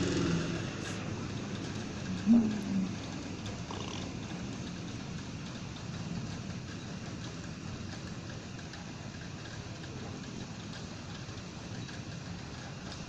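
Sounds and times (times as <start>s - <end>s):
steady rain hiss: 0.0s - 13.0s
raindrop ticks: 1.2s - 13.0s.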